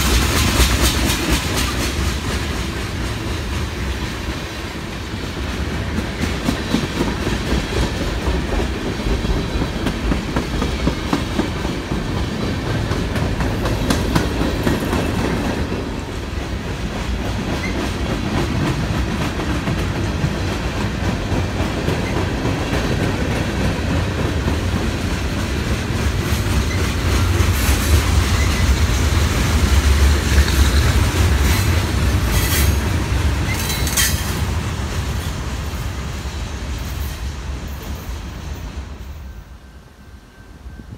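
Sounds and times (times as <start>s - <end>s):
freight train rumble: 0.0s - 40.9s.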